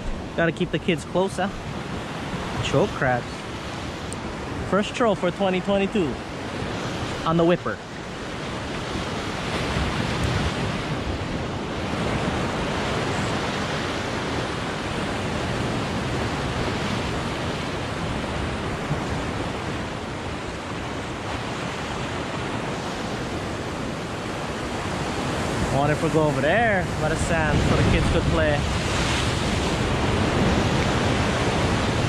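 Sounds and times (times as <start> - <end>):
ocean surf breaking on rocks: 0.0 - 32.0.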